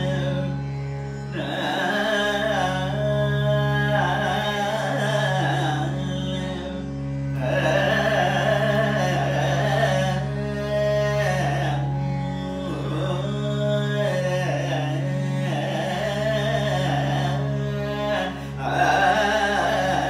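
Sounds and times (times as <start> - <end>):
man singing ornamented melody: 0.0 - 0.6, 1.3 - 6.8, 7.4 - 20.0
steady drone: 0.0 - 20.0.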